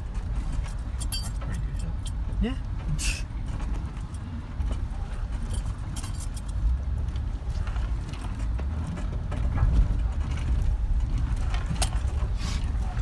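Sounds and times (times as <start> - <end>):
jeep engine running low: 0.0 - 13.0.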